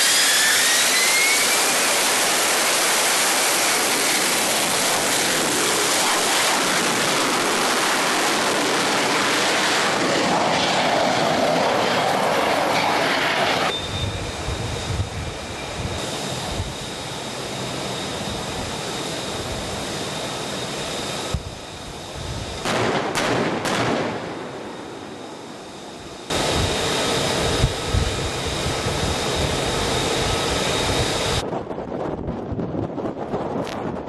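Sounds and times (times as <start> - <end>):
faint high whine: 0.0 - 10.5, 12.6 - 22.6, 24.1 - 31.5
jet engine roar: 0.0 - 34.0.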